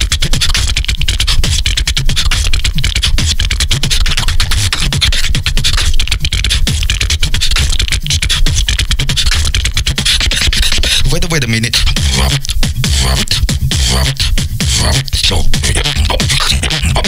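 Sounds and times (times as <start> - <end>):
person beatboxing: 0.0 - 17.0.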